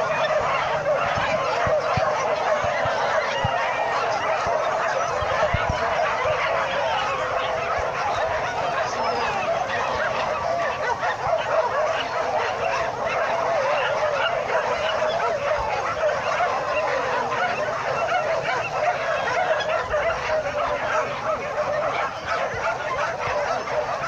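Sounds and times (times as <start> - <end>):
pack of dogs yelping and barking: 0.0 - 24.0.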